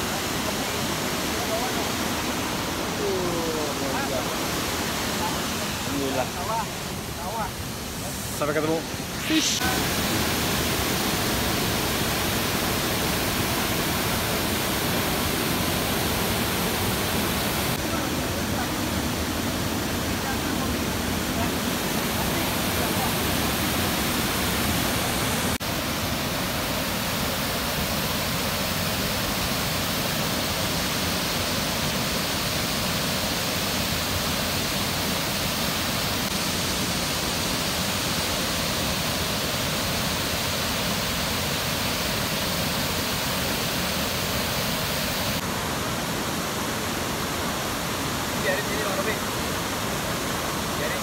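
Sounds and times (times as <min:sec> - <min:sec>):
waterfall and river rushing: 0:00.0 - 0:51.0.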